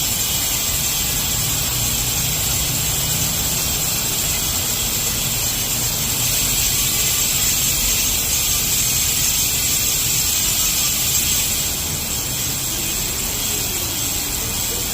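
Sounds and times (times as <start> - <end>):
bicycle hub freewheeling buzz: 0.0 - 14.9.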